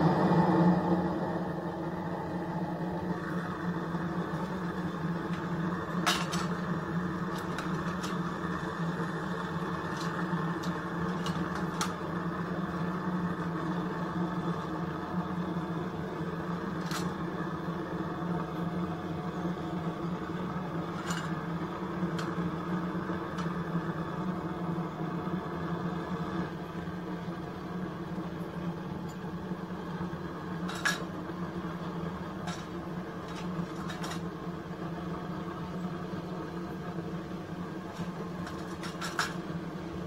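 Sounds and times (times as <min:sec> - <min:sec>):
gas burner rushing: 0:00.0 - 0:40.0.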